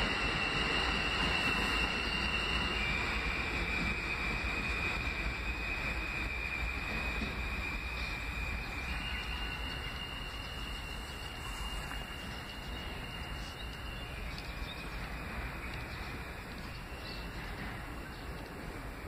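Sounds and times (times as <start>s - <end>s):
subway train rumbling and whining: 0.0s - 19.0s.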